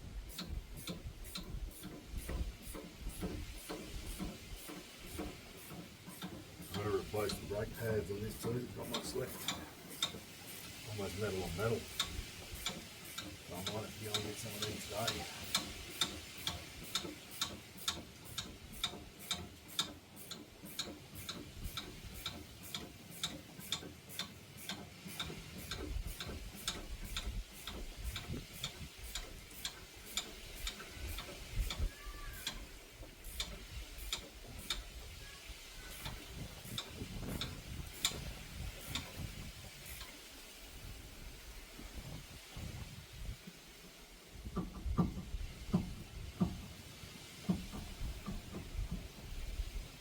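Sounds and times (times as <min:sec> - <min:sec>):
mechanical ticking: 0:00.1 - 0:41.0.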